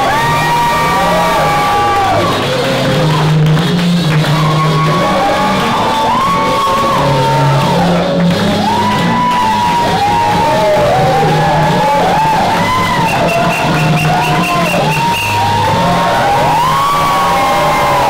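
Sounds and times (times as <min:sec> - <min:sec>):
audience shouting and whooping: 0:00.0 - 0:18.0
loud music with bass line: 0:00.0 - 0:18.0.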